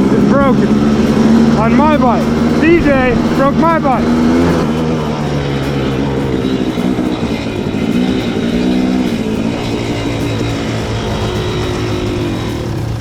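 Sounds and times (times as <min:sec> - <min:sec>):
dirt bike engine running: 0:00.0 - 0:13.0
steady rushing noise: 0:00.0 - 0:13.0.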